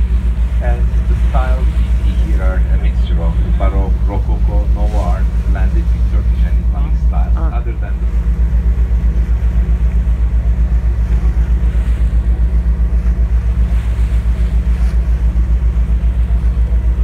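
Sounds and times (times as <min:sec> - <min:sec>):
faint wind: 0:00.0 - 0:17.0
ferry engine throbbing: 0:00.0 - 0:17.0
water noise: 0:00.0 - 0:17.0.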